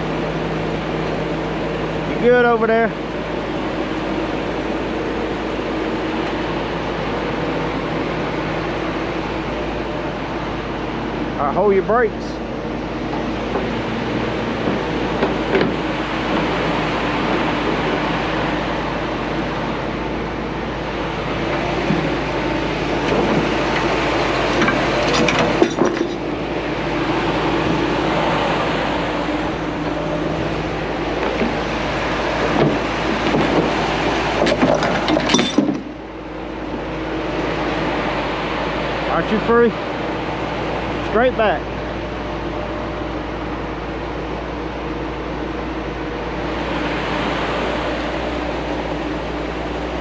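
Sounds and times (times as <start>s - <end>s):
large truck engine running: 0.0s - 50.0s.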